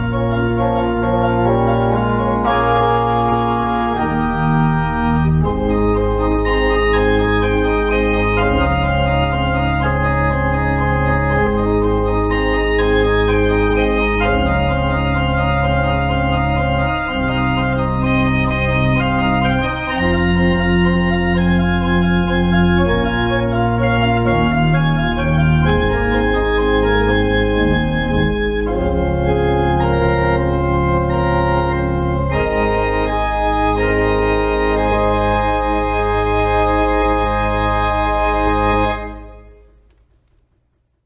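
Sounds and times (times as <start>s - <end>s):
organ playing slow chords: 0.0s - 39.8s.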